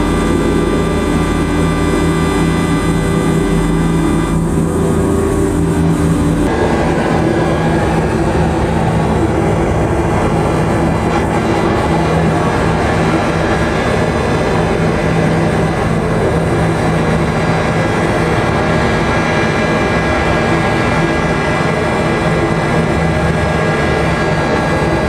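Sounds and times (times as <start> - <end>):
dense wash of noise: 0.0 - 25.0
steady low hum: 0.0 - 25.0.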